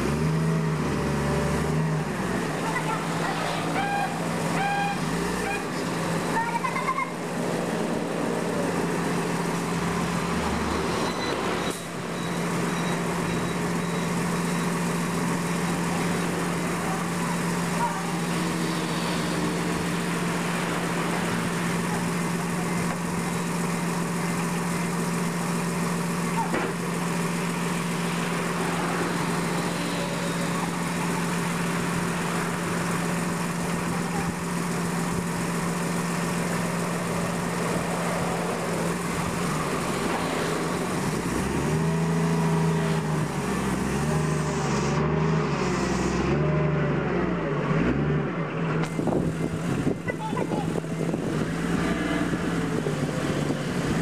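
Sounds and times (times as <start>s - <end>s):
diesel forklift engine idling: 0.0s - 54.0s.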